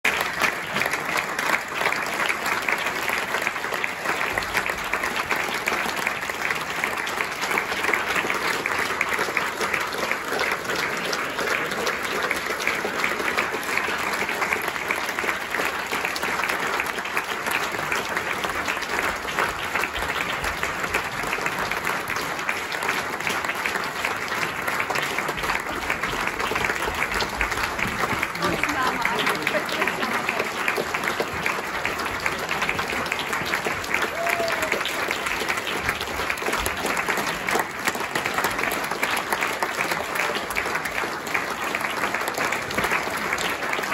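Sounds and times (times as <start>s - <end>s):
audience applauding: 0.0s - 43.9s.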